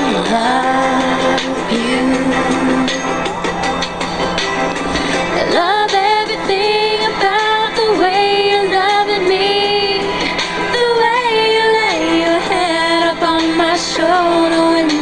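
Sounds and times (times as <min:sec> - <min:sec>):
woman singing with vibrato: 0:00.0 - 0:03.3, 0:05.2 - 0:15.0.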